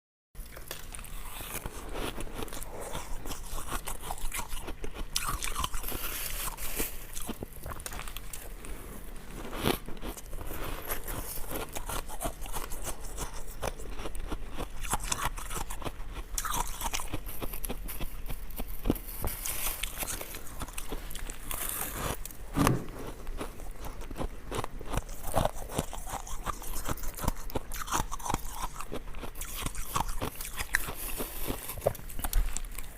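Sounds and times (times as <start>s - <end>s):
ice cubes crunching between teeth: 0.4s - 8.5s, 9.7s - 22.2s, 23.4s - 32.9s.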